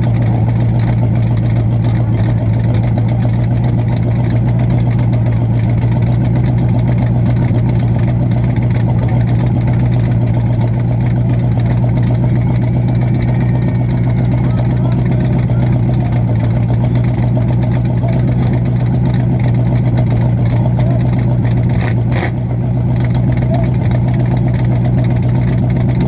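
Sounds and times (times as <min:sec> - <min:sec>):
car engine idling loudly: 0:00.0 - 0:26.0.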